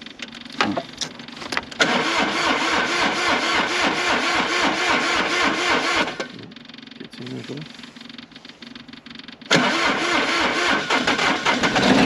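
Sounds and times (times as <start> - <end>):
starter cranking tractor engine: 0.0 - 12.0.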